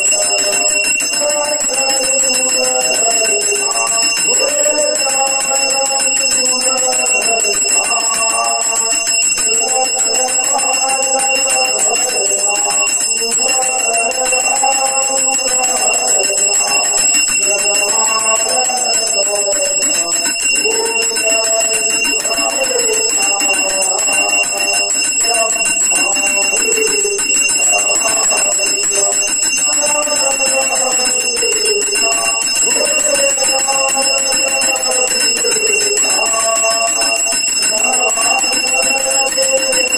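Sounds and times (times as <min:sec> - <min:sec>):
bell ringing: 0:00.0 - 0:39.9
men singing a hymn: 0:00.0 - 0:39.9.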